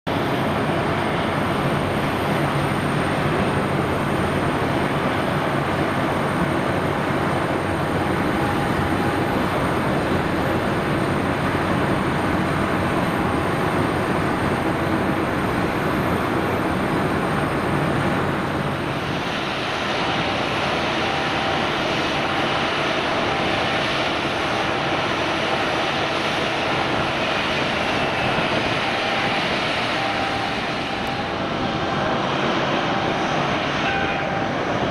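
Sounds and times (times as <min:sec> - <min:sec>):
jet engines running: 0:00.1 - 0:34.9.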